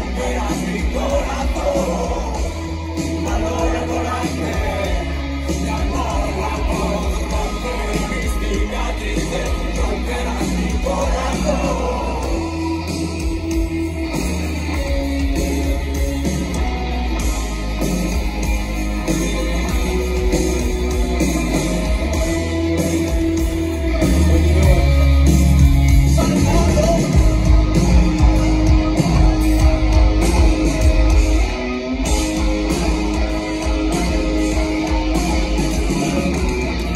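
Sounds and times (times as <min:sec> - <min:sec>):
rock band playing live: 0:00.0 - 0:36.9.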